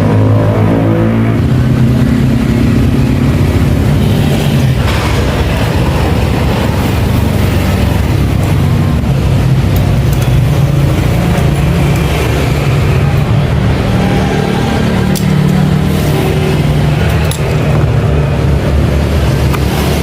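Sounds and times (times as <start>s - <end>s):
scooter engine revving: 0.0s - 20.0s.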